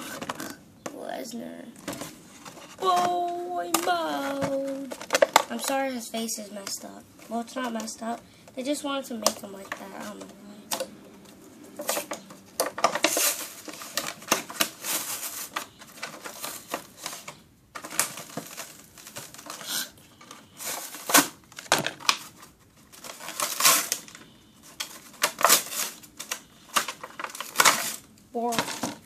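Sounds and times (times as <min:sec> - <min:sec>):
plastic packaging clicks and rustling: 0:01.8 - 0:29.0.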